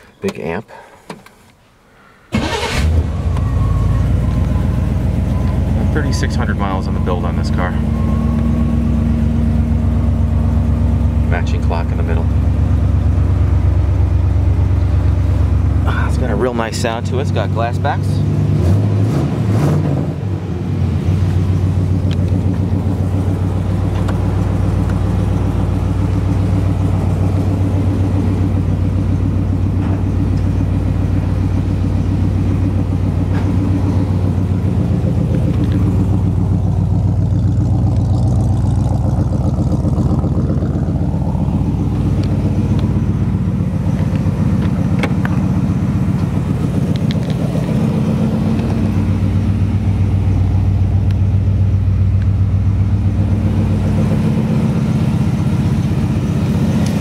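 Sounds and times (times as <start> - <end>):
vee eight engine idling: 2.4 - 18.2, 20.4 - 57.0.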